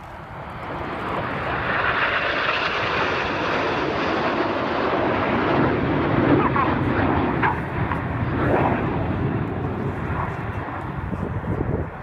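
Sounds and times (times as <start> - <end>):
jets roaring past: 0.0 - 12.0.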